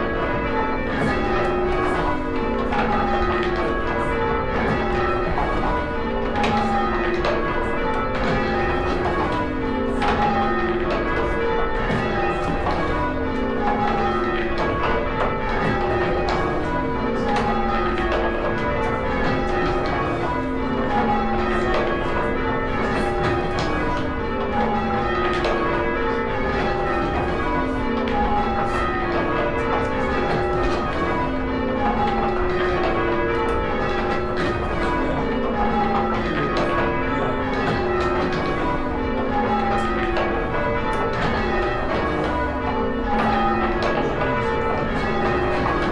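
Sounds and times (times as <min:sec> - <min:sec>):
church bells ringing in sequence: 0:00.0 - 0:45.9.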